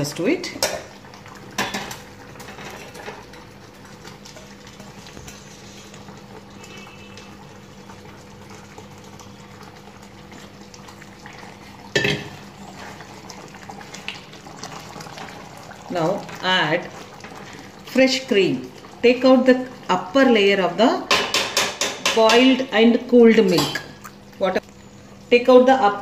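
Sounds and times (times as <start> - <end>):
gravy bubbling in a pan: 0.0 - 26.0.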